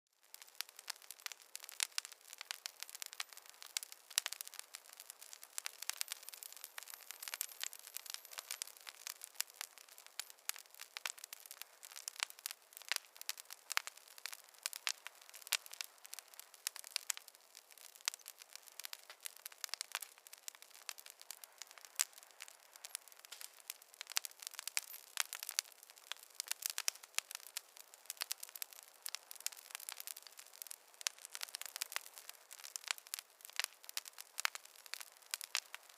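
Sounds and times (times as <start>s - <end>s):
campfire crackling: 0.2s - 35.9s.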